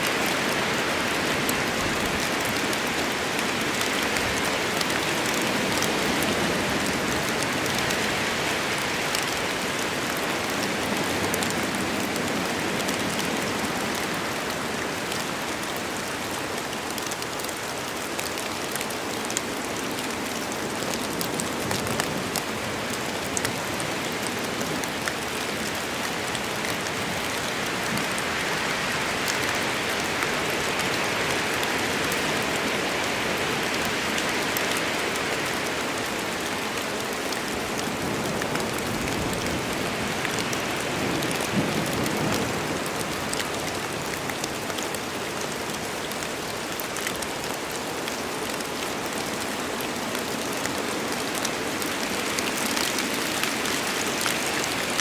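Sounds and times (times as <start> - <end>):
heavy rain in forest: 0.0 - 55.0.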